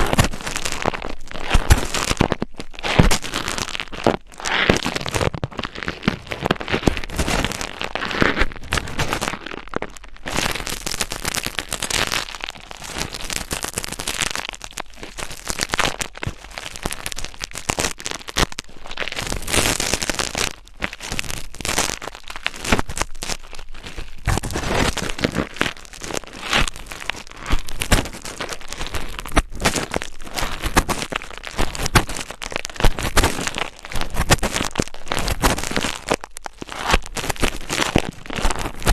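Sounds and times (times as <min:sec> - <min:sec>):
scratching crackles and rustles: 0:00.0 - 0:38.9.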